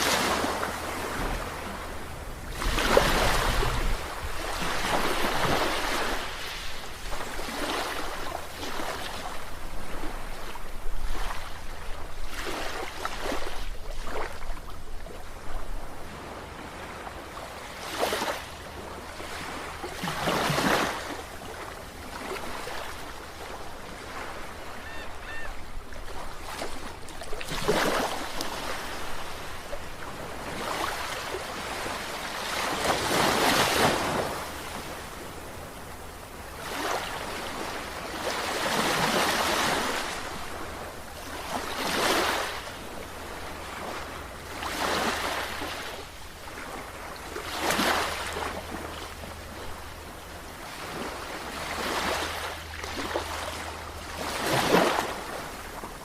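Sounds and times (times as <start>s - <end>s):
sea waves breaking: 0.0s - 14.7s, 15.7s - 56.0s.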